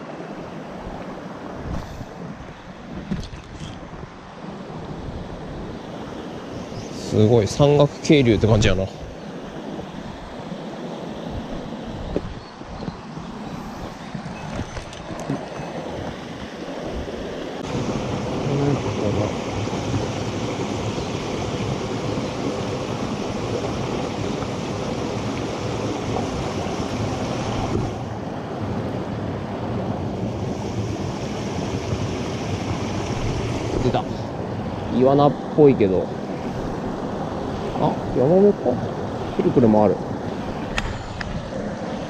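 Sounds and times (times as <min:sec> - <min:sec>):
mountain stream rushing: 0:00.0 - 0:42.0.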